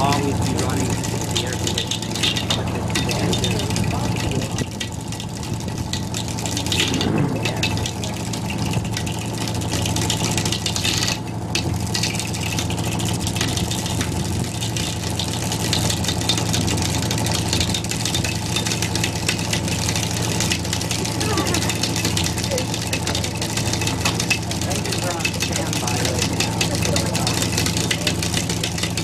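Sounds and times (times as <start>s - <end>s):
ship machinery humming: 0.0s - 29.0s.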